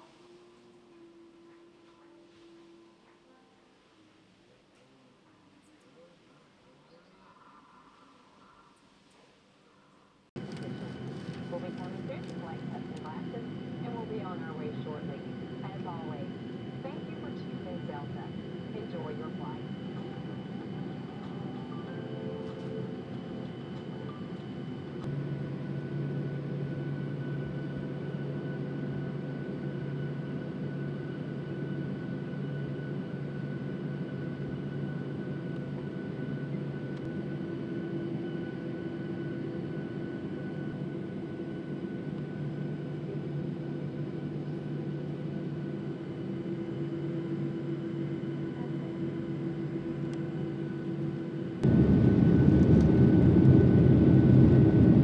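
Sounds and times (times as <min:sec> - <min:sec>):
aircraft cabin engine hum: 0:10.4 - 0:55.0.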